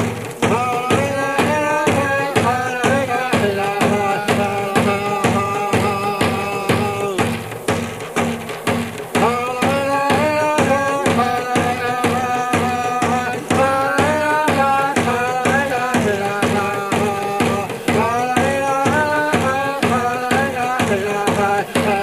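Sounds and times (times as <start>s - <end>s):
background music with drum beat: 0.0s - 22.0s.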